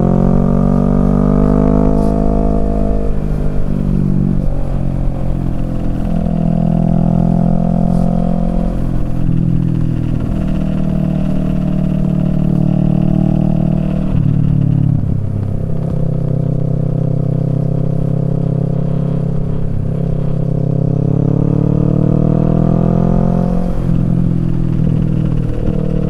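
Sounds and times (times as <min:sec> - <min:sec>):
motorcycle engine while riding: 0:00.0 - 0:26.0.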